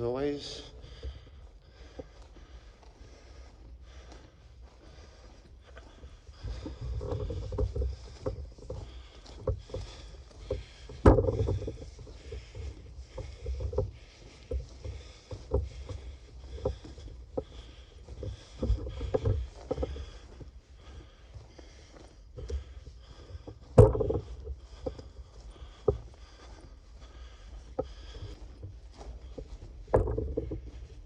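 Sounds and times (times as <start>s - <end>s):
footsteps in a tunnel: 0.0s - 31.0s.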